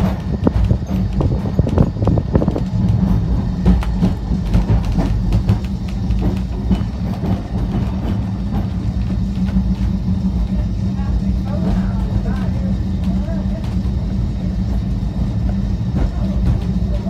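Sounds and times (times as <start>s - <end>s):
constant hum: 0.0s - 17.0s
tram wheels rumbling on rail: 0.0s - 17.0s.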